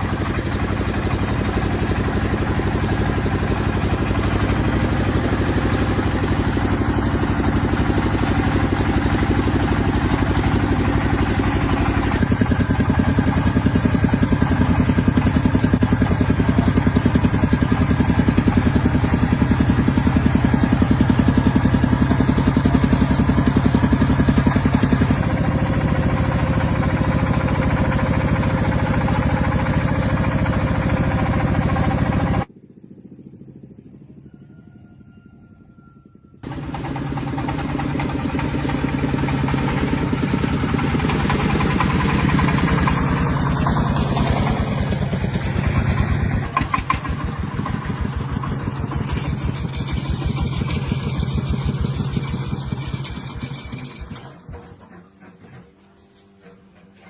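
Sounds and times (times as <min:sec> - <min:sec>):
tractor engine running: 0:00.0 - 0:34.4, 0:36.0 - 0:57.0.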